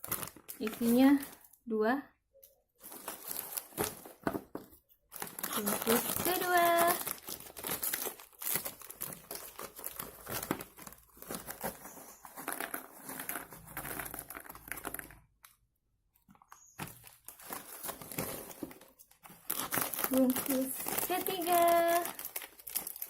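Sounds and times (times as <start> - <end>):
plastic packets crinkling: 0.0 - 1.6, 2.7 - 15.6, 16.3 - 23.0.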